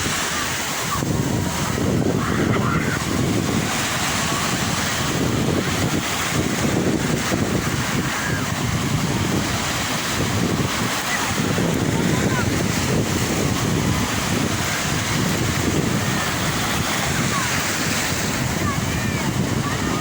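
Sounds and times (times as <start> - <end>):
sea waves washing on shore: 0.0 - 20.0
wind buffeting microphone: 0.0 - 20.0.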